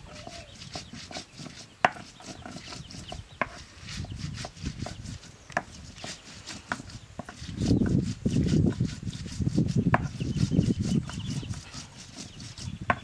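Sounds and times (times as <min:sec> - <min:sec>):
stone scraping on stone slab: 0:00.2 - 0:13.0.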